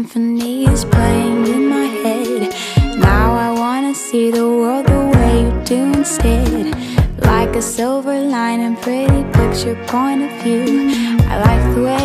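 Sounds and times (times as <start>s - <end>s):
soft pop song: 0.0s - 12.0s.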